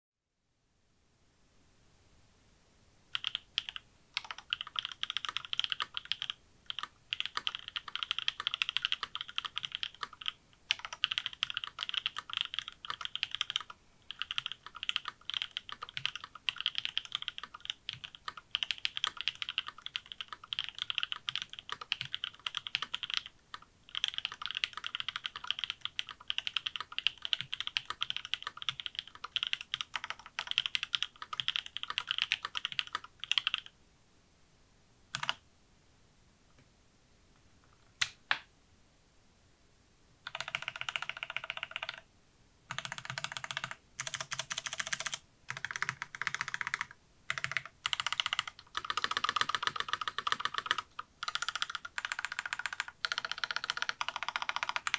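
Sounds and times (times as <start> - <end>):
fast mechanical keyboard typing: 3.1 - 33.7, 35.1 - 35.4, 40.3 - 42.0, 42.7 - 54.9.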